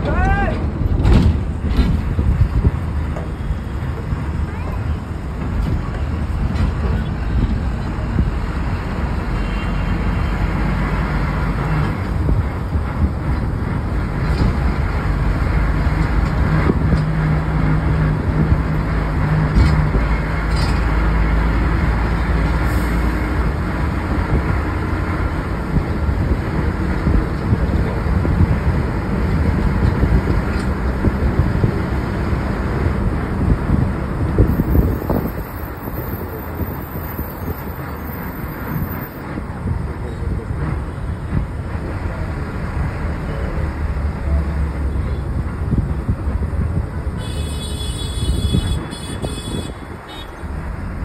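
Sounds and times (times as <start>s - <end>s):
vehicle engine and road noise: 0.0s - 51.0s.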